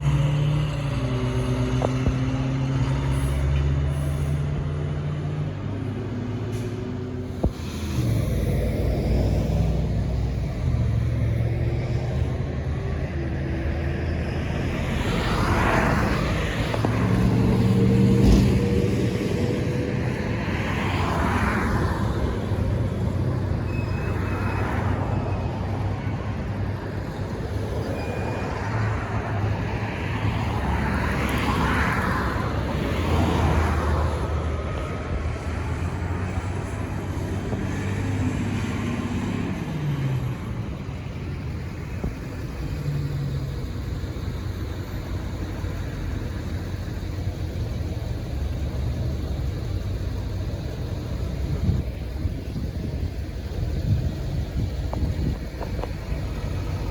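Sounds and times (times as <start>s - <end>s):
cars passing: 0.0s - 56.9s
diesel engine rumbling: 0.0s - 56.9s.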